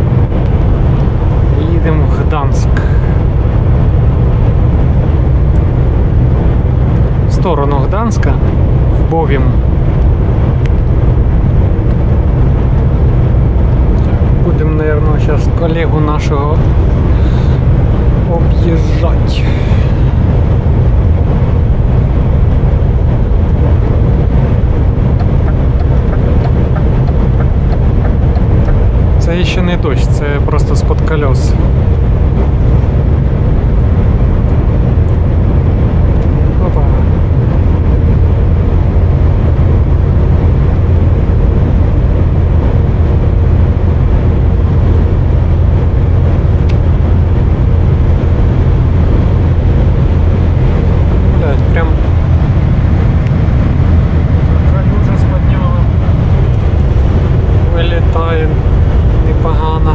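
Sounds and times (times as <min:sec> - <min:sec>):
truck engine drone: 0:00.0 - 0:59.9
tyres on road: 0:00.0 - 0:59.9.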